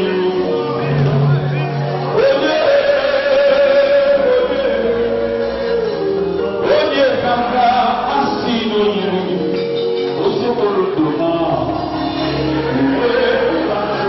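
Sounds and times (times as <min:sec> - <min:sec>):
congregation singing: 0:00.0 - 0:14.0.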